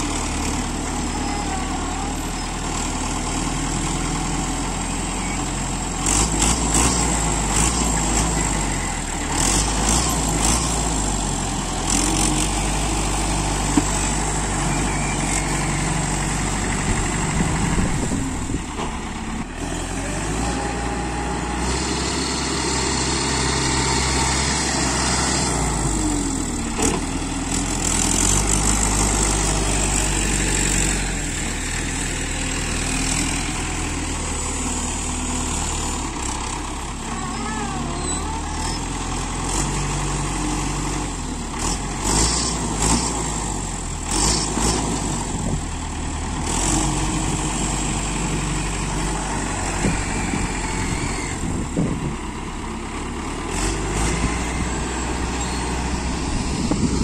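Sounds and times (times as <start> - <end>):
second tractor engine idling: 0.0 - 6.0, 7.2 - 42.1, 45.1 - 57.0
tractor engine revving: 0.0 - 57.0.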